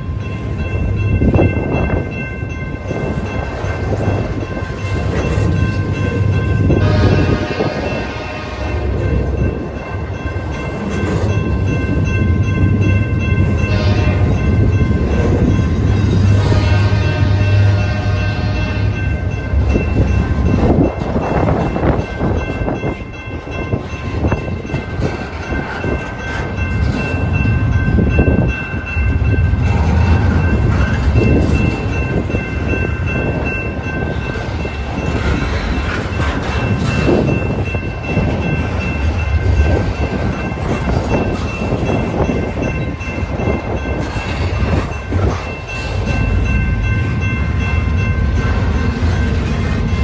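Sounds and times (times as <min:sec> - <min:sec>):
train cars rumbling past: 0:00.0 - 0:50.0
wind buffeting microphone: 0:00.0 - 0:50.0.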